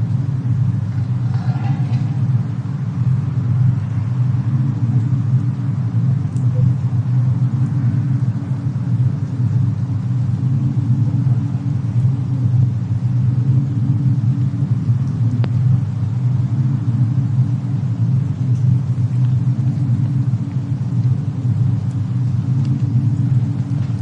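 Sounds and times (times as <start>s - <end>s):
faint fire crackles: 0.0s - 24.0s
steady low rumble: 0.0s - 24.0s.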